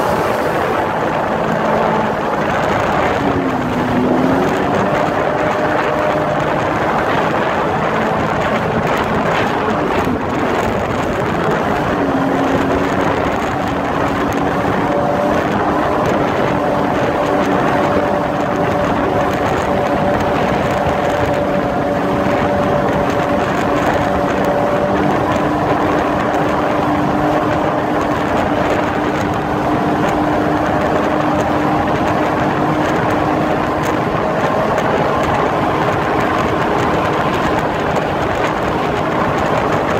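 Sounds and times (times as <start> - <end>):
constant rushing noise: 0.0 - 39.9
jet ski engine whining: 0.0 - 39.9.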